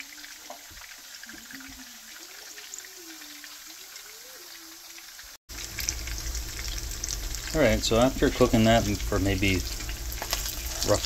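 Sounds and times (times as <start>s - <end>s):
fish fillets sizzling in oil: 0.0s - 11.0s.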